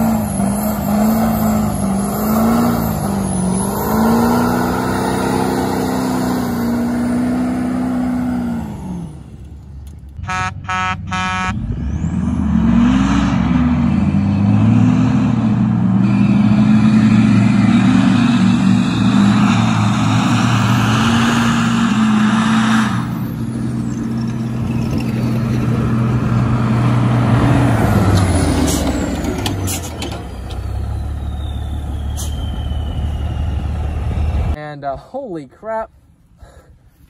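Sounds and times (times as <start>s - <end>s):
tires churning through mud: 0.0s - 9.4s, 11.6s - 34.6s
diesel engines revving: 0.0s - 34.6s.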